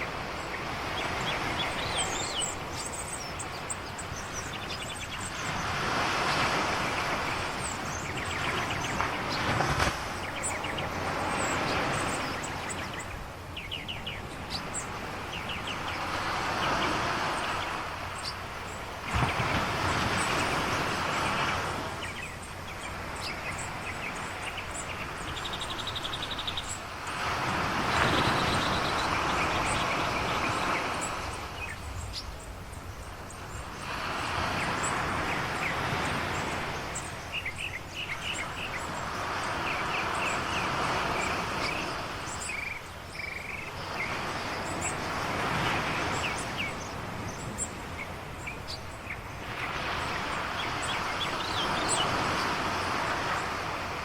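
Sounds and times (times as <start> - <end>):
ocean waves washing onto shore: 0.0 - 54.0
small birds chirping: 0.0 - 54.0.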